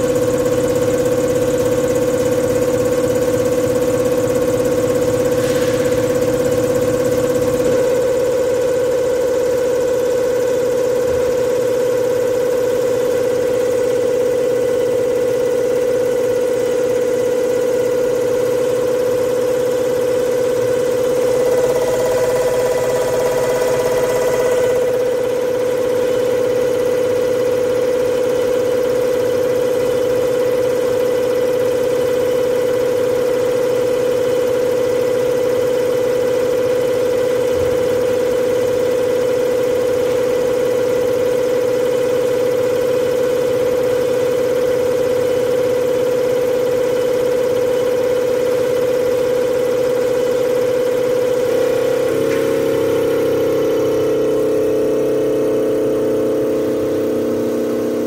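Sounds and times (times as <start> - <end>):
machine hum with constant tone: 0.0 - 58.0.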